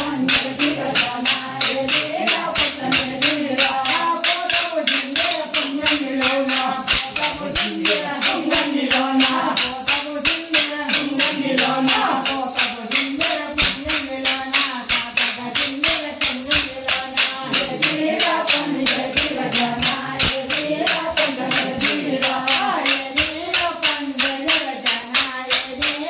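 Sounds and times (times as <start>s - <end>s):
people singing: 0.0s - 26.0s
wooden sticks clacking: 0.0s - 26.0s.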